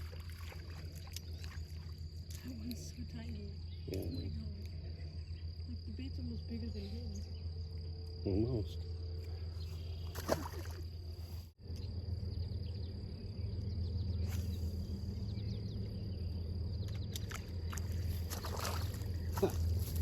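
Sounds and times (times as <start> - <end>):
low hum: 0.0 - 20.0
high insect drone: 0.1 - 20.0.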